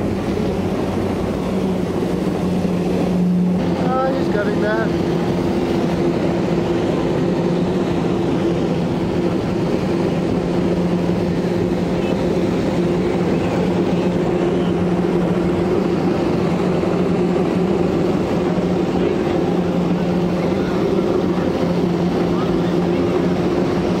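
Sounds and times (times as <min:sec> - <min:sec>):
watercraft engine droning: 0:00.0 - 0:24.0.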